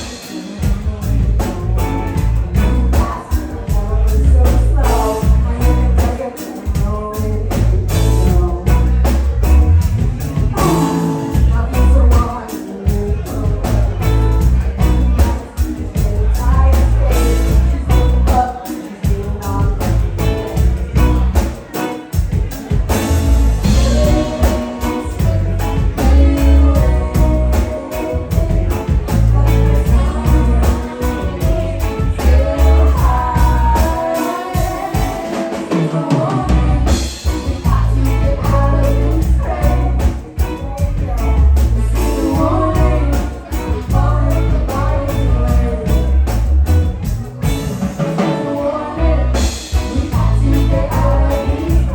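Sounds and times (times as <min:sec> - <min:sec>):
live rock band playing: 0:00.0 - 0:51.9
person singing: 0:00.0 - 0:51.9.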